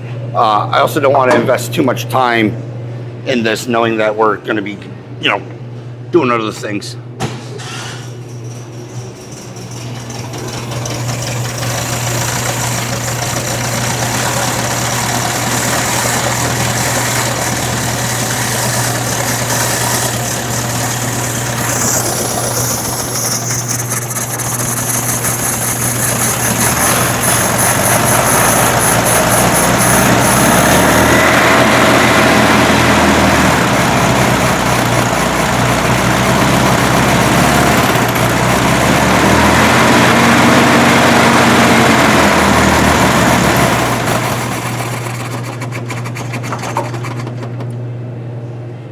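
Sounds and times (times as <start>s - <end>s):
air-cooled car engine running: 7.6s - 47.9s.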